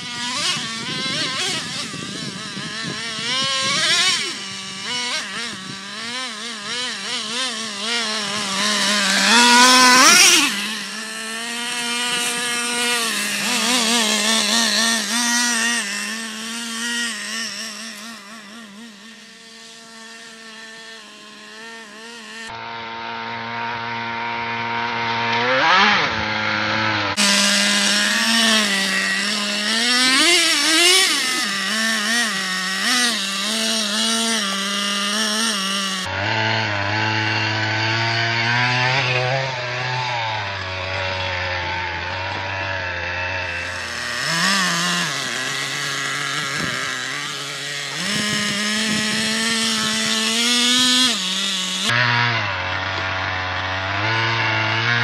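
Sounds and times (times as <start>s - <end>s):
small engine revving: 0.0s - 55.0s.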